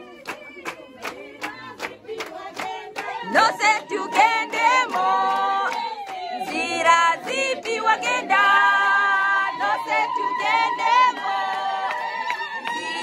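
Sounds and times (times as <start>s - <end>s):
group singing a cappella: 0.0s - 13.0s.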